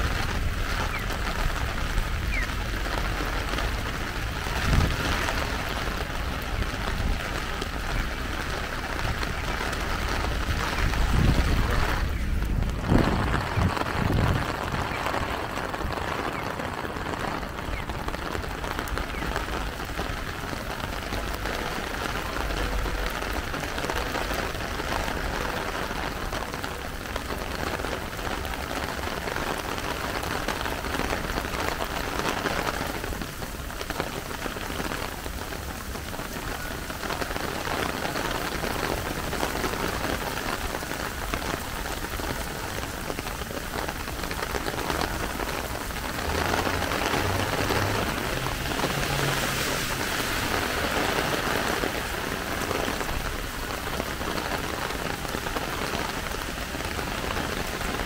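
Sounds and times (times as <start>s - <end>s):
heavy rain on wet pavement: 0.0s - 58.0s.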